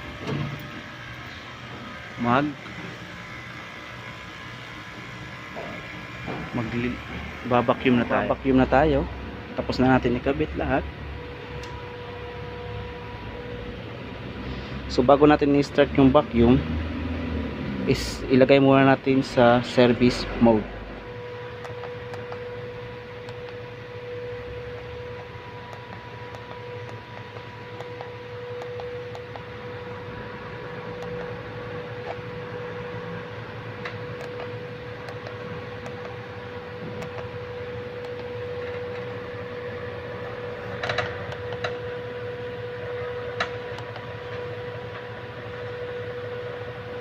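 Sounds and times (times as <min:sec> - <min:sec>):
electrical-mechanical hum: 0:00.0 - 0:47.0.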